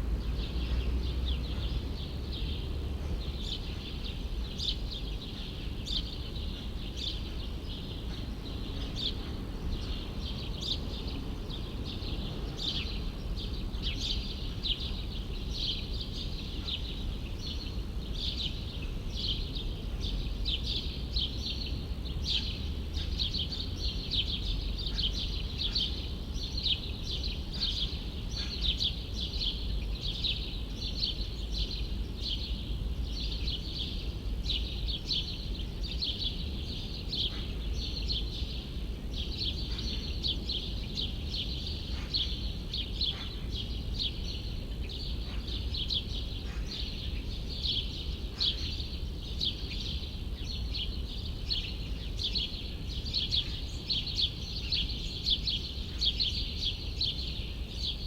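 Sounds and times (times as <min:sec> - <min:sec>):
low city rumble: 0:00.0 - 0:58.0
small birds twittering: 0:00.0 - 0:58.0.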